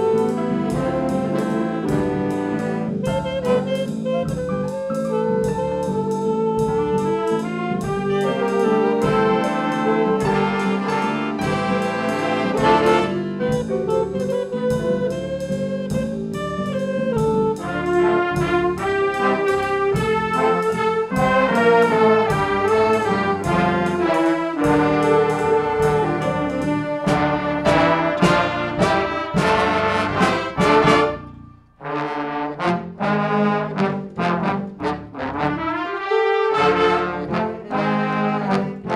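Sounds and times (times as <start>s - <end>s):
brass ensemble playing: 0.0s - 38.9s.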